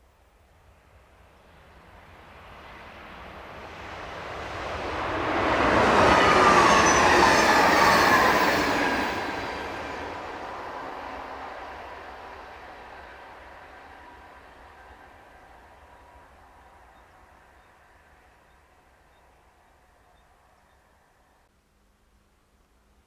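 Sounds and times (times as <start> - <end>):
electric train passing at speed: 0.6 - 21.4
train whine: 1.2 - 21.4.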